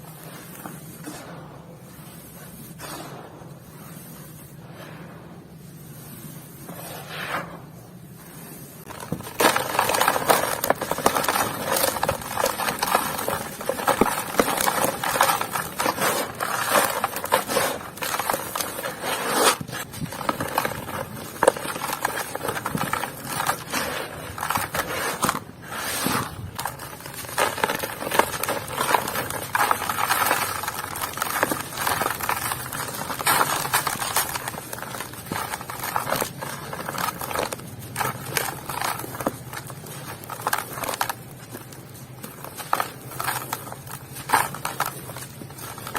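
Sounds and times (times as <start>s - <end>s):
dry lumps crunching and crumbling: 8.3s - 45.9s.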